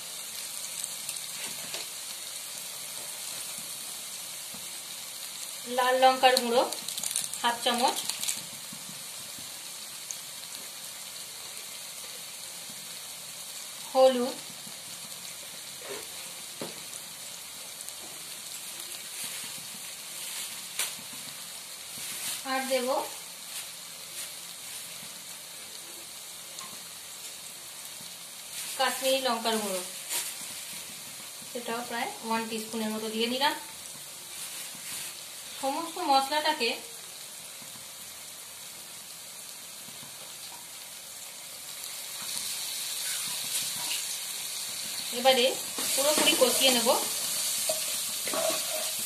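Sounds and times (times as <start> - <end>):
food sizzling in oil: 0.0 - 49.0.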